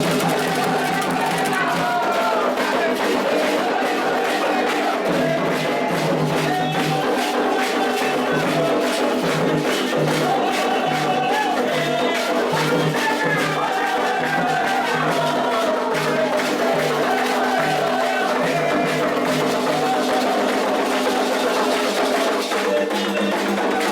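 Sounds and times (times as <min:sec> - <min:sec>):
group singing a chant: 0:00.0 - 0:23.9
hand drums beating: 0:00.0 - 0:23.9.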